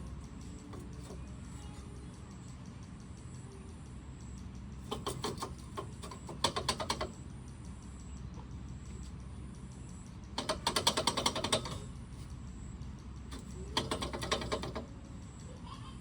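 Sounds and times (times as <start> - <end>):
ratchet wrench clicking: 0.0 - 9.2, 9.8 - 15.6.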